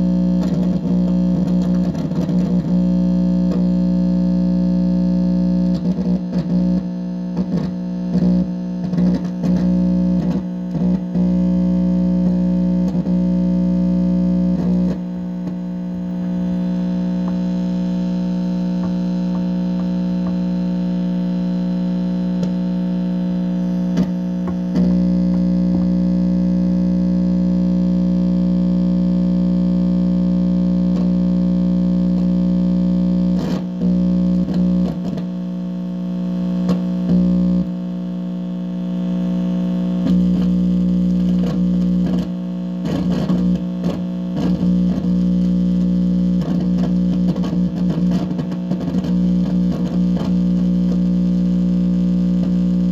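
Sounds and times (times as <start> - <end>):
crackles: 0.0 - 52.9
electrical buzz of held tones: 0.0 - 52.9.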